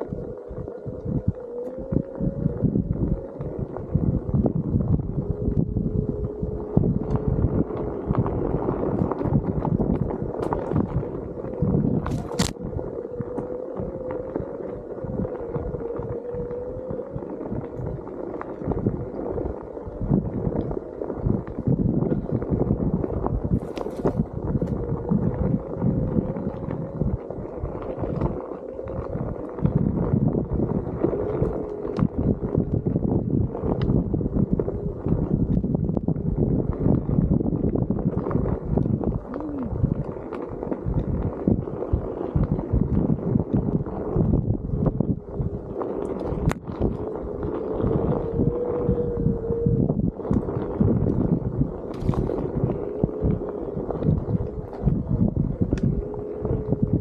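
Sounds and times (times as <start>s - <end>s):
low rumble: 0.0s - 57.0s
wind buffeting microphone: 0.0s - 57.0s.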